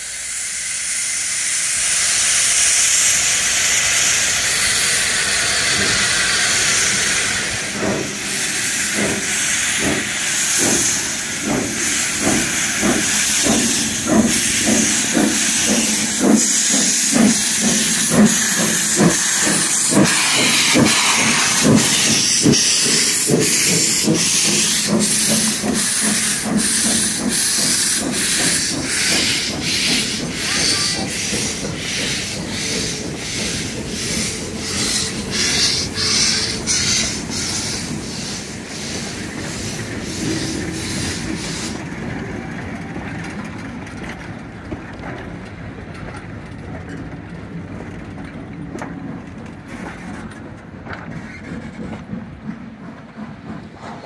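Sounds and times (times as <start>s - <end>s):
steam hissing from cylinders: 0.0s - 43.7s
steam locomotive chuffing: 0.0s - 54.0s.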